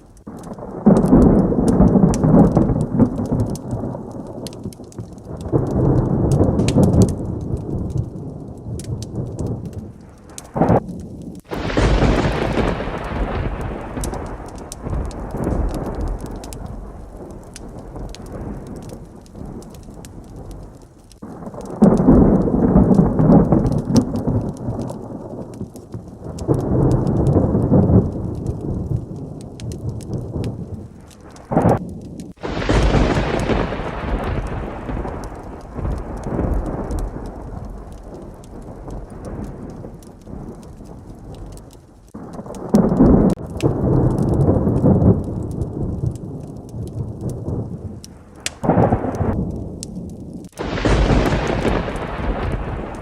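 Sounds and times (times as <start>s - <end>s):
close thunder crack: 0.0s - 53.0s
heavy rain: 0.0s - 53.0s
thunder rumbling: 0.0s - 53.0s.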